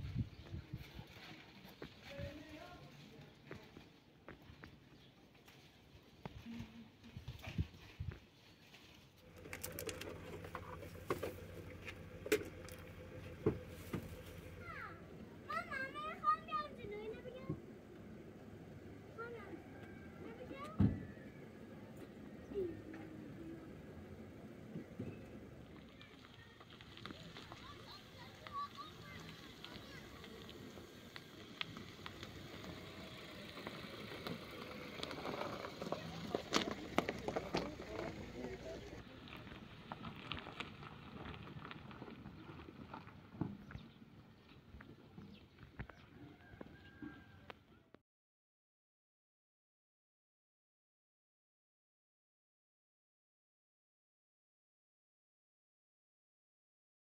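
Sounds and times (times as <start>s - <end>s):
engine and tyres rumbling on gravel: 0.0s - 47.7s.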